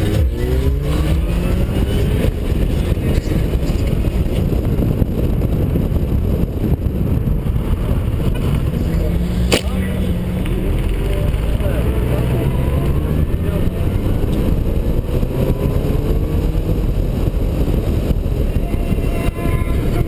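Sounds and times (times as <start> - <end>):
car engine accelerating hard: 0.0 - 20.0
wind rushing on microphone: 0.0 - 20.0.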